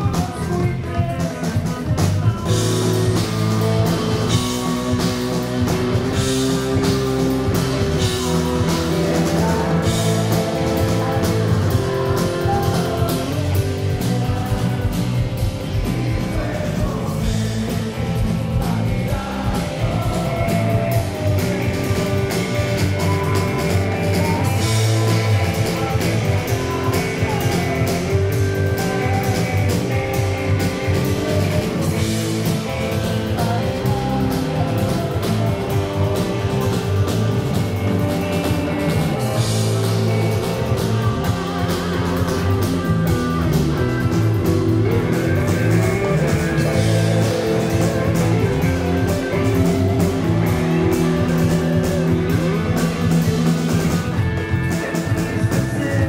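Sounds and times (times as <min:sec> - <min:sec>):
bass guitar: 0:00.0 - 0:56.0
drum kit: 0:00.0 - 0:56.0
electric guitar: 0:00.0 - 0:56.0
person singing: 0:00.0 - 0:56.0.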